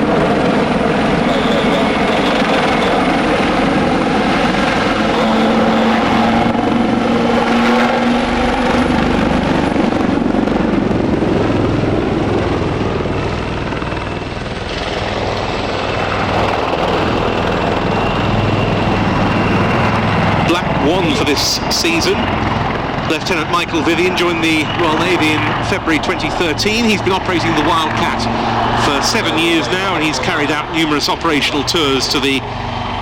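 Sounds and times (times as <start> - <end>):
helicopter rotor and turbine noise: 0.0 - 33.0.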